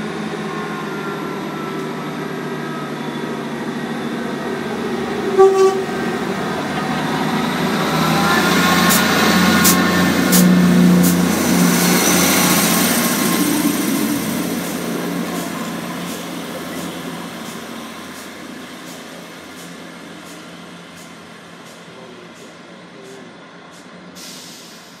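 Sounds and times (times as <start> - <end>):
diesel train engine drone: 0.0 - 25.0.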